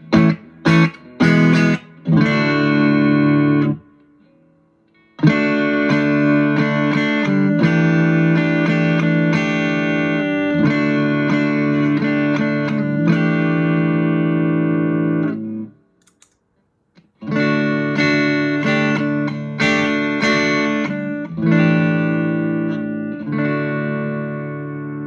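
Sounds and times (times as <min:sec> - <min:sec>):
electric guitar strummed chords: 0:00.0 - 0:15.8, 0:17.2 - 0:25.0.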